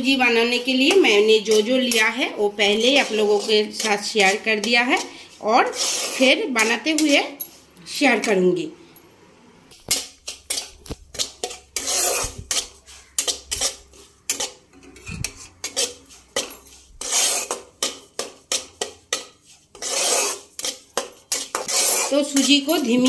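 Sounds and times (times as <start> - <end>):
metal spatula scraping a pan: 0.0 - 7.7, 9.7 - 23.0.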